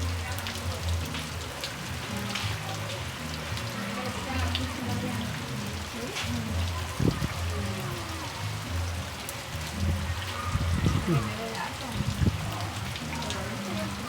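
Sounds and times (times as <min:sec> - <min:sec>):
faint music with low bass: 0:00.0 - 0:14.0
heavy rain falling: 0:00.0 - 0:14.0
raindrops ticking close by: 0:00.0 - 0:14.0.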